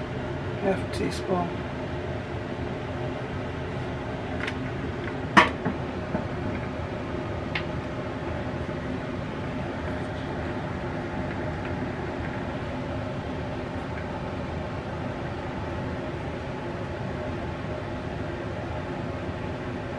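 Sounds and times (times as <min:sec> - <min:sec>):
air fryer fan hum: 0:00.0 - 0:19.9.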